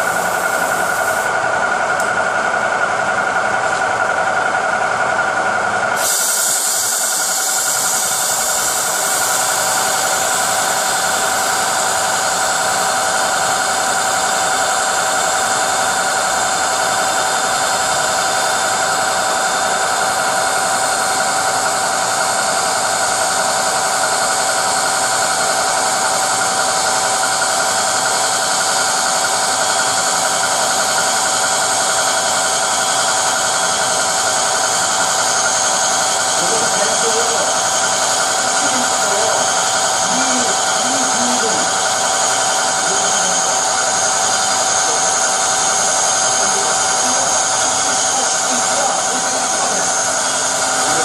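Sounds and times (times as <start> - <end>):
metal lathe whining: 0.0 - 51.0.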